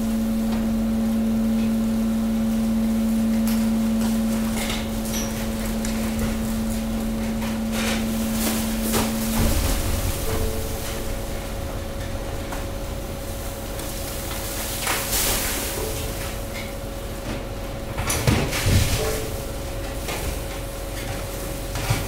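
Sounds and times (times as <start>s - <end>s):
hydraulic press humming: 0.0s - 21.8s
waste bags knocking and rustling: 3.4s - 22.0s.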